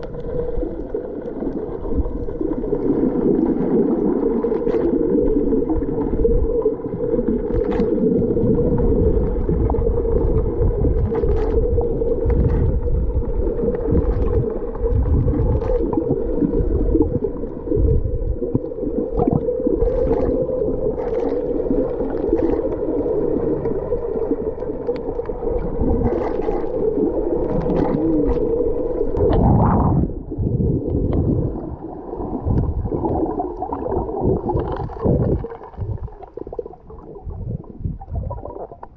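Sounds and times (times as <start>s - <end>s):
rushing water swell: 0.0s - 38.9s
underwater rumbling and gurgling: 0.0s - 38.9s.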